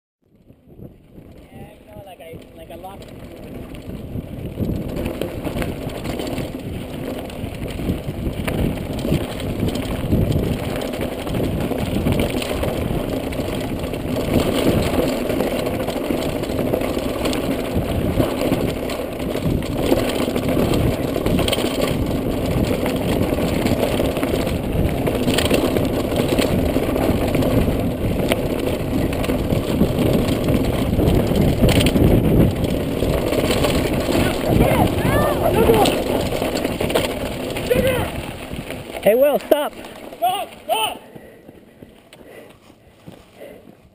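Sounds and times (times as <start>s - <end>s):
bike rattling over rocks: 0.3s - 43.9s
tyres crunching over gravel: 1.8s - 43.9s.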